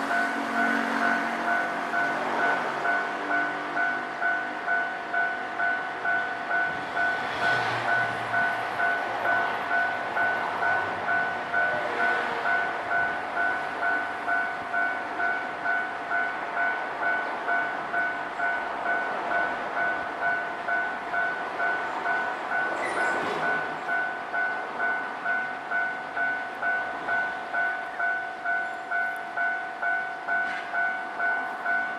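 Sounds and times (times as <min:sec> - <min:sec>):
trains rumbling past: 0:00.0 - 0:31.9.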